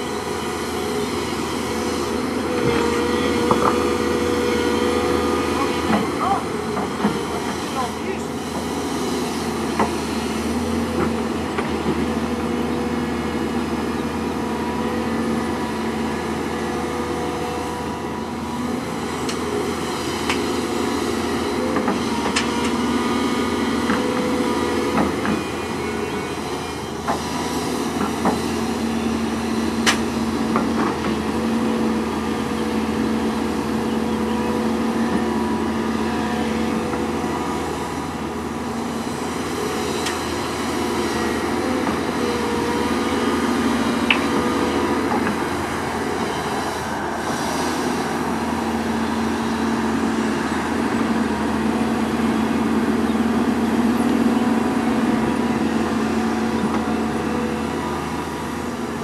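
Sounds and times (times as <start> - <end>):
diesel engines running: 0.0 - 59.0
excavator digging sand: 0.0 - 59.0.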